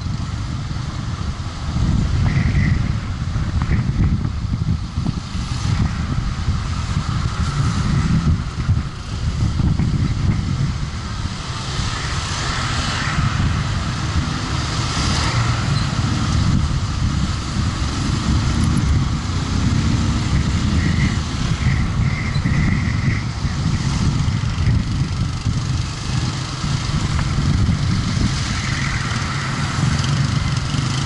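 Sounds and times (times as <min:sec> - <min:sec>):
tyres on road: 0:00.0 - 0:31.0
vehicle engine running: 0:00.0 - 0:31.0
wind buffeting microphone: 0:00.0 - 0:31.0.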